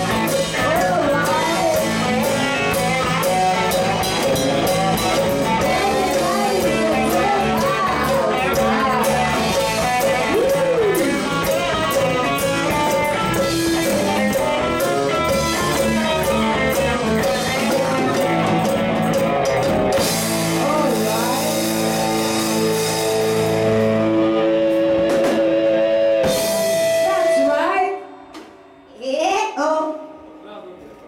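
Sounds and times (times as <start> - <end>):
live country-rock band: 0.0 - 27.7.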